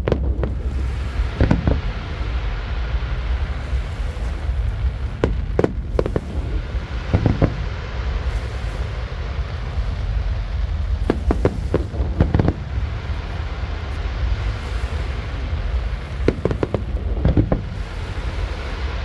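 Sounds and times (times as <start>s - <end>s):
fireworks popping and banging: 0.0s - 19.0s
wind rumble on microphone: 0.0s - 19.0s.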